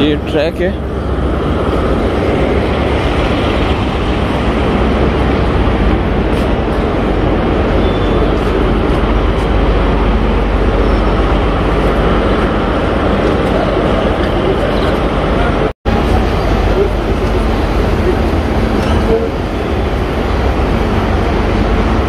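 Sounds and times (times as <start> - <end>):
busy railway station din: 0.0 - 22.0.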